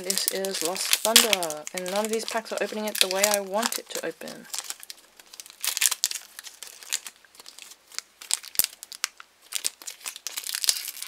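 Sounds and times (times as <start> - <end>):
foil pack crinkling: 0.0 - 11.0.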